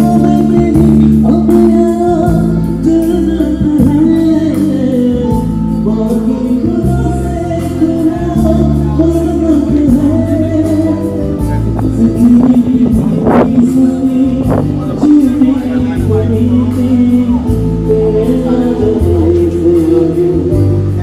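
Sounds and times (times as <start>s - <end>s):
live band playing romantic song: 0.0s - 21.0s.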